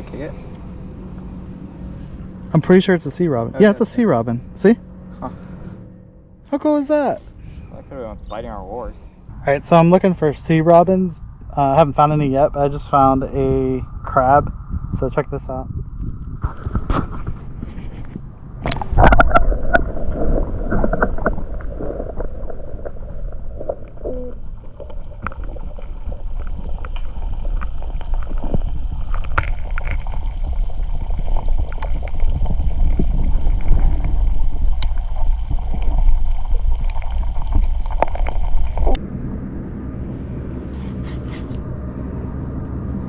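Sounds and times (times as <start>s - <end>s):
low rumble of water: 0.0s - 16.8s, 17.6s - 43.0s
wind against microphone: 0.0s - 23.2s, 25.3s - 43.0s.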